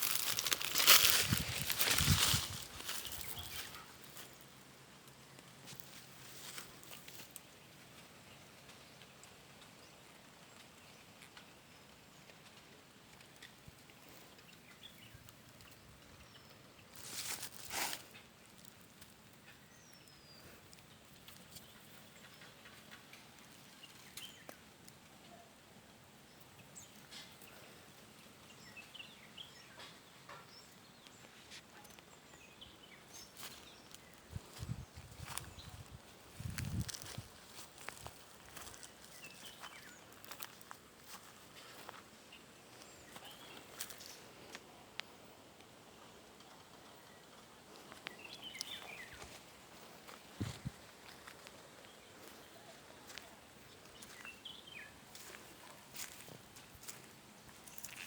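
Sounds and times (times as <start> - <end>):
rustle: 0.0 - 58.0.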